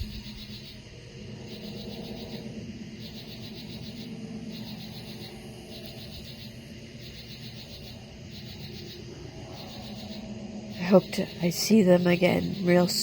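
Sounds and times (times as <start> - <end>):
insects chirping in pulsed bursts: 0.0 - 13.0
steady low hum: 0.0 - 13.0.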